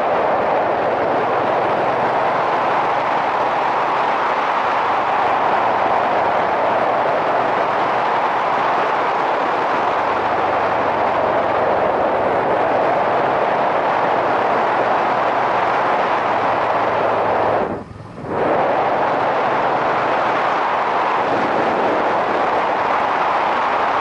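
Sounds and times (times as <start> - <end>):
low motorcycle engine hum: 0.0 - 24.0
road noise: 0.0 - 24.0
wind rush: 0.0 - 24.0.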